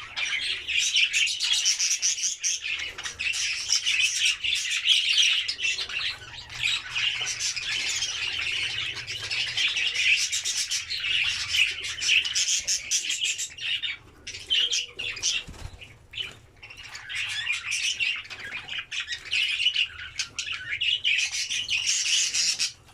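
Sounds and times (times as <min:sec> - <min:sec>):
bird squawks: 0:00.0 - 0:22.8
budgerigars chattering and chirping: 0:00.0 - 0:22.9.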